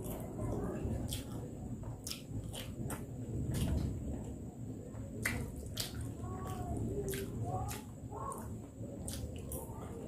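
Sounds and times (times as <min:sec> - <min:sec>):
person chewing food: 0:00.0 - 0:04.0, 0:05.2 - 0:10.0.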